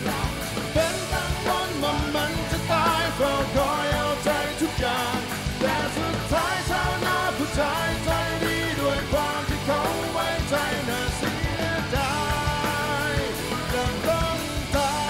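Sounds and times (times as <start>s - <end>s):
live rock band: 0.0s - 15.0s
man singing rock song: 0.0s - 15.0s.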